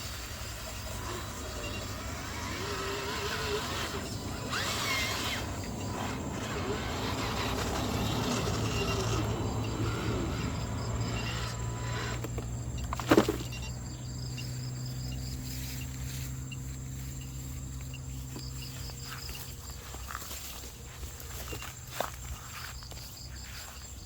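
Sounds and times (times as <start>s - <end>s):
insects chirping: 0.0s - 24.0s
steady low hum: 0.0s - 24.0s.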